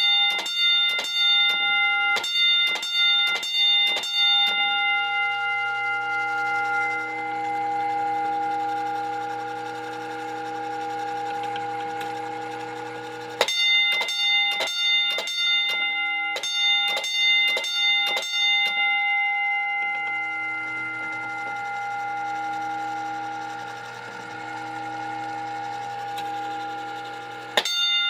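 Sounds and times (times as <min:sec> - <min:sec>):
sharp alarm bell strokes: 0:00.0 - 0:11.2, 0:12.2 - 0:28.0
steady ringing alarm tone: 0:00.0 - 0:28.0.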